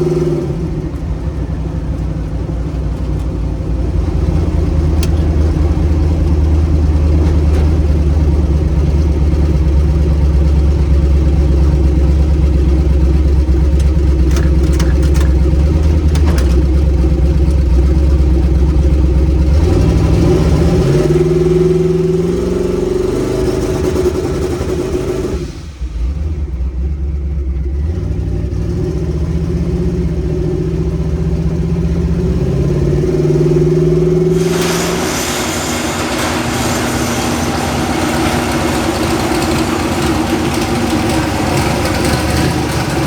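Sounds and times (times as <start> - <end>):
truck engine deep drone: 0.0 - 43.0.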